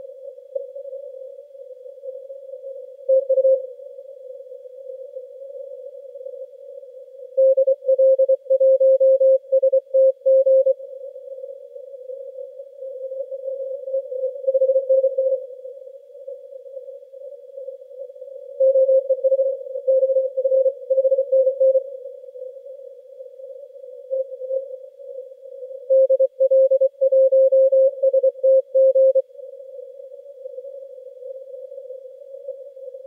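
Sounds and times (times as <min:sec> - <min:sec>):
filtered radio hiss: 0:00.0 - 0:33.0.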